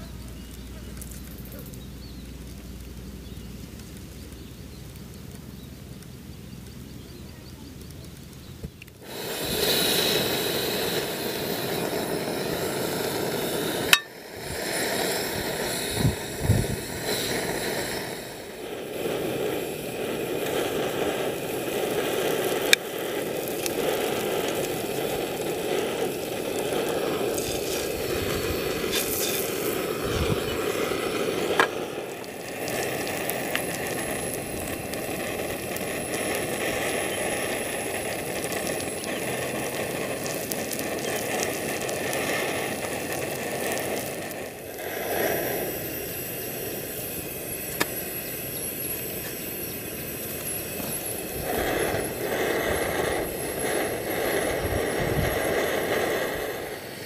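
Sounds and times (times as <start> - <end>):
food frying in a pan: 0.0 - 57.0.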